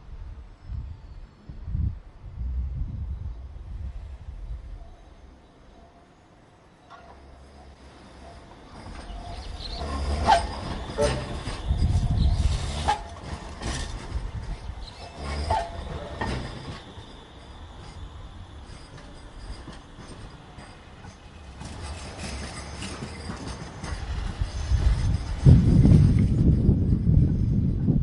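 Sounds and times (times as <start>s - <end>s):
tram rumbling on rails: 0.0s - 28.0s
tram wheels knocking and squealing: 4.4s - 28.0s.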